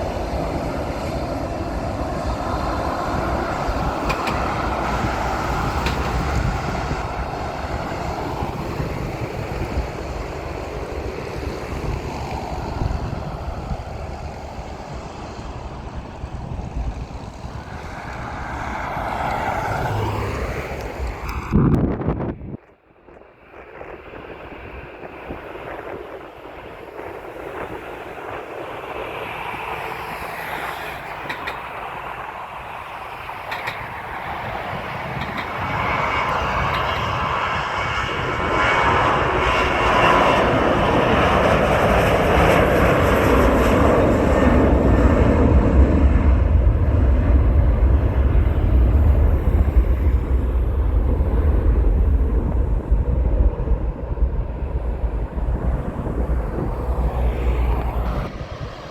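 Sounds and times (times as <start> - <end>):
jet airliner engine roar: 0.0 - 58.9.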